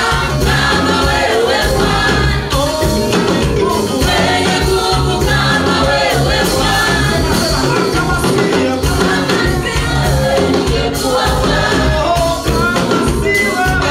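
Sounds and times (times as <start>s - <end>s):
group singing gospel song: 0.0s - 13.9s
instrumental backing with bass: 0.0s - 13.9s.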